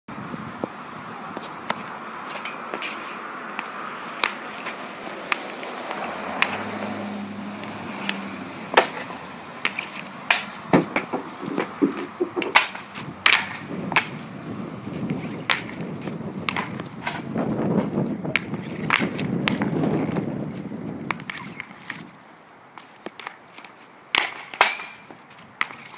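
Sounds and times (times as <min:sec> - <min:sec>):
hockey pucks cracking: 0:01.4 - 0:06.8, 0:07.6 - 0:14.3, 0:15.0 - 0:17.3, 0:18.3 - 0:22.1, 0:22.7 - 0:25.9.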